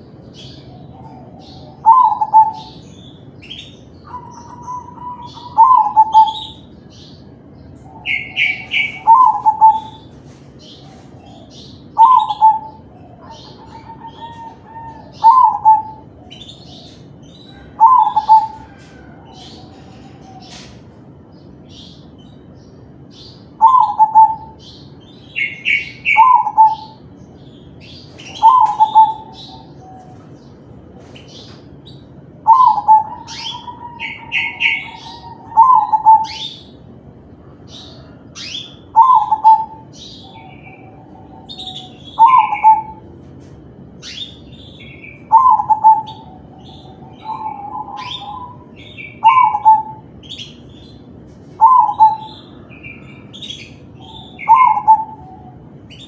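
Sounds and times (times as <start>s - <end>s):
dove cooing song: 0.0s - 56.0s
small birds chirping: 0.0s - 56.0s.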